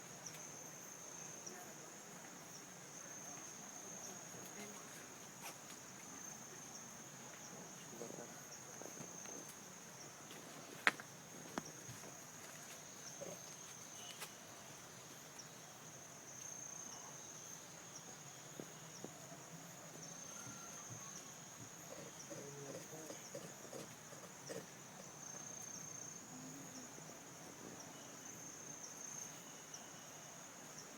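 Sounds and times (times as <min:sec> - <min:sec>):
insects chirring: 0:00.0 - 0:30.9.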